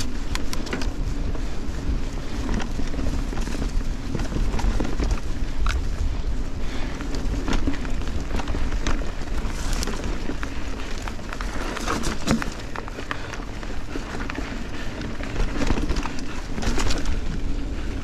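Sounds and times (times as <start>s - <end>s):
bike clicks and rattles: 0.0s - 18.0s
bike tyres rolling on dirt trail: 0.0s - 18.0s
wind rumble on microphone: 0.0s - 18.0s.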